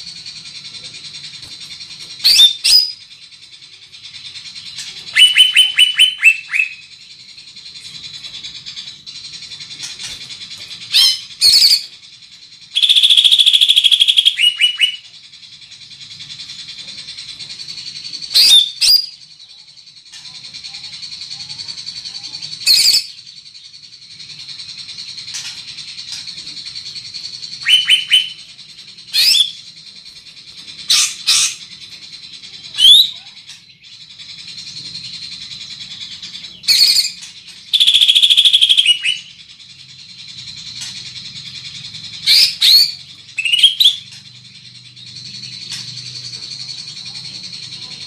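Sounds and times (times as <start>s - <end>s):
bird singing piercing chirps: 0.0s - 48.0s.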